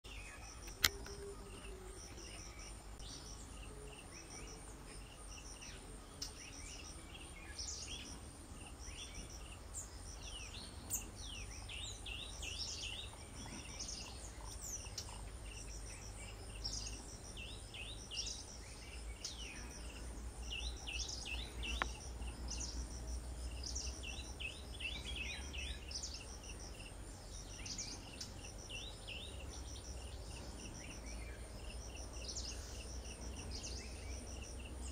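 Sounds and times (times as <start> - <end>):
small birds chirping: 0.0 - 34.9
insects chirping: 0.1 - 34.9.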